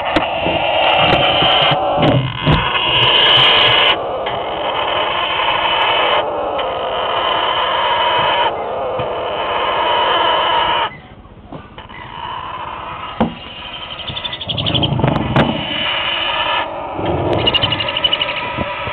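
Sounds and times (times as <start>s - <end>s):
parrot chicks begging calls: 0.0s - 11.1s, 11.8s - 18.9s.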